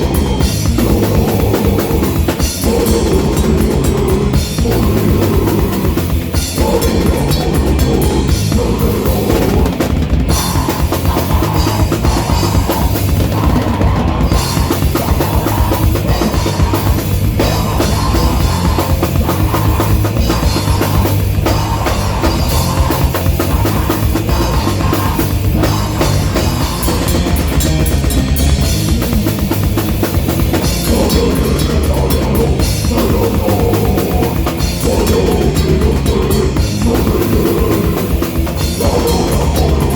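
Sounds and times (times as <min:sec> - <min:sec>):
bass drum and cymbals: 0:00.0 - 0:39.9
rock band playing live: 0:00.0 - 0:39.9.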